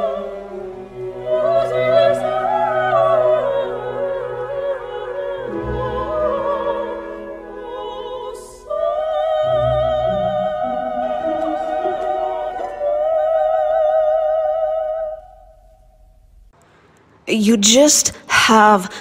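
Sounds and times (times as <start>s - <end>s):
opera singing voice: 0.0s - 15.6s, 17.3s - 19.0s
low sustained accompaniment: 0.0s - 16.2s.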